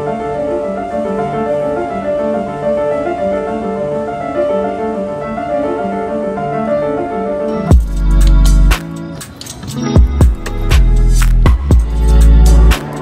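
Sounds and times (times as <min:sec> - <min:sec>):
grand piano playing: 0:00.0 - 0:13.0.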